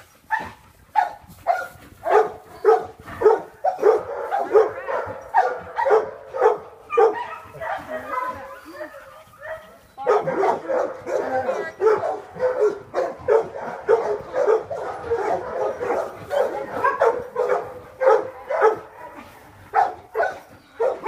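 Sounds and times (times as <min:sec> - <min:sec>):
dog barking and yipping: 0:00.3 - 0:21.0.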